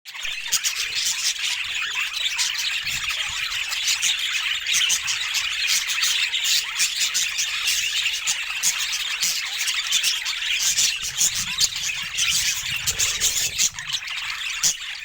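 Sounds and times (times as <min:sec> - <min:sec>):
budgerigars chattering: 0:00.3 - 0:15.0.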